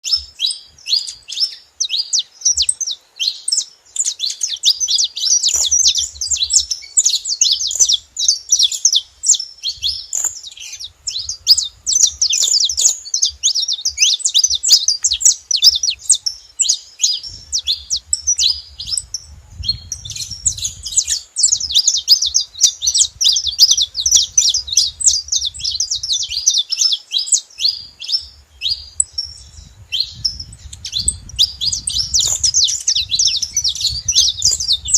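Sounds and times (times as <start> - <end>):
finches chirping and singing: 0.0 - 34.9.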